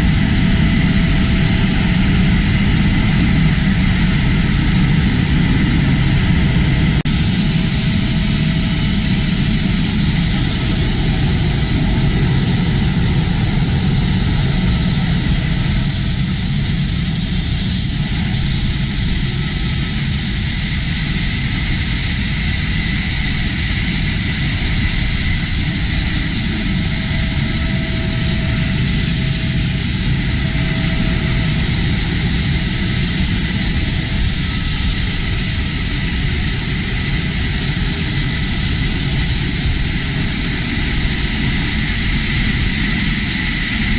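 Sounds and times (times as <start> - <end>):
jet engine running: 0.0 - 43.9.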